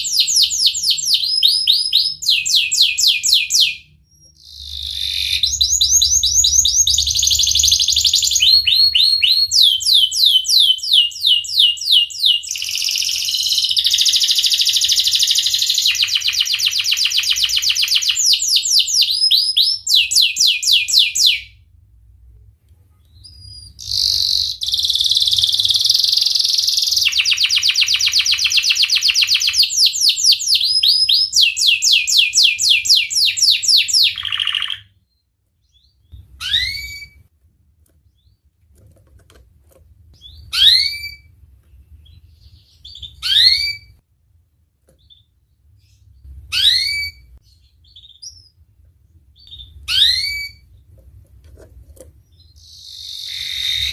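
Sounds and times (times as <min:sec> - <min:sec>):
canary singing: 0:00.0 - 0:21.6, 0:23.0 - 0:37.3, 0:40.2 - 0:44.0, 0:45.0 - 0:48.6, 0:49.4 - 0:51.0, 0:52.2 - 0:53.9.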